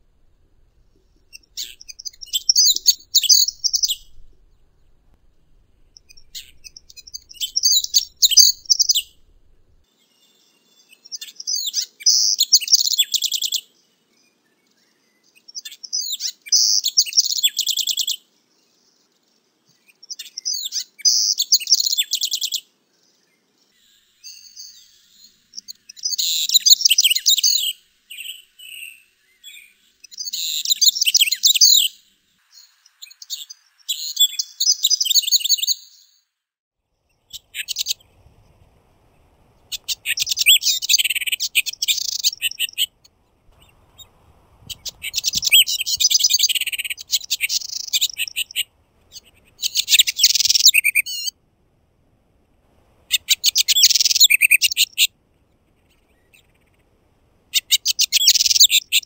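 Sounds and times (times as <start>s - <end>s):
wren singing trills and warbles: 1.0s - 36.1s, 37.1s - 38.2s, 39.6s - 51.3s, 53.1s - 59.0s.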